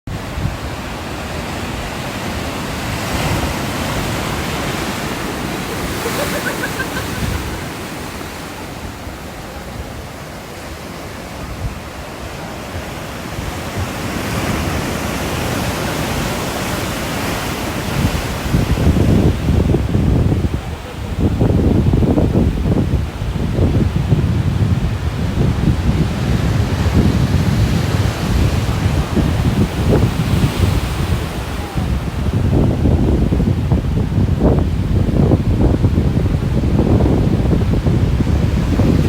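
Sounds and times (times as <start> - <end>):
ocean waves breaking on shore: 0.1 - 39.0
wind buffeting microphone: 0.1 - 39.0.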